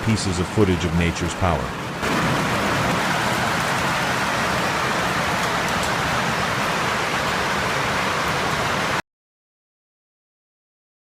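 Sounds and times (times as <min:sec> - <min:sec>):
heavy rainstorm: 0:00.0 - 0:09.0.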